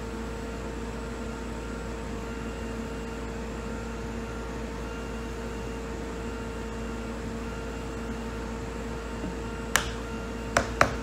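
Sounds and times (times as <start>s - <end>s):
machine hum with steady tone: 0.0s - 11.0s.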